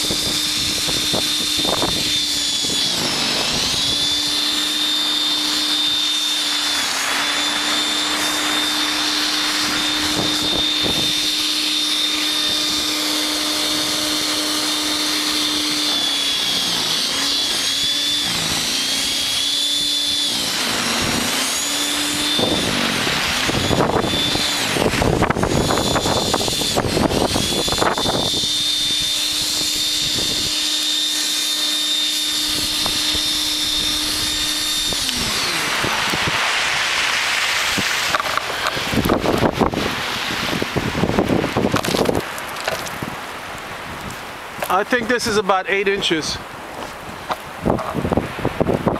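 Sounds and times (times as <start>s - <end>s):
auger churning through snow: 0.0s - 43.1s
electric snow thrower motor whine: 0.0s - 48.9s.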